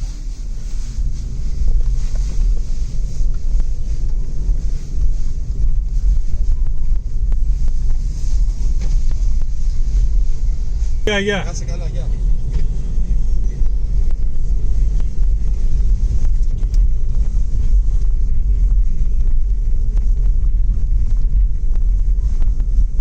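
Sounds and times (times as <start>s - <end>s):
vehicle engine and tyres rumbling: 0.0s - 23.0s.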